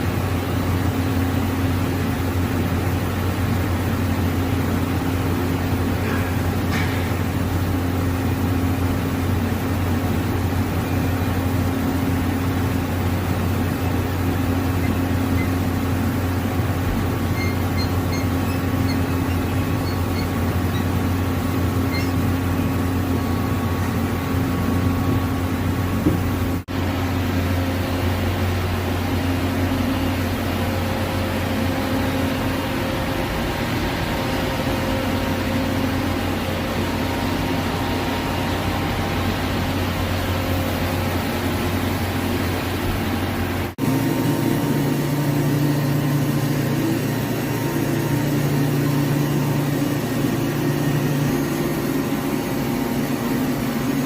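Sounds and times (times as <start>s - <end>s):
lathe mechanical hum: 0.0s - 54.0s.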